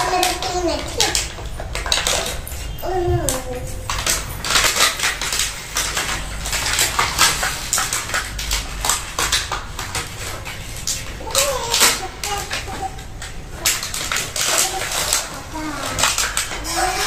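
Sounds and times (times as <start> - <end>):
plastic packaging crinkling: 0.0 - 17.0
plastic toy cars clattering: 0.0 - 17.0.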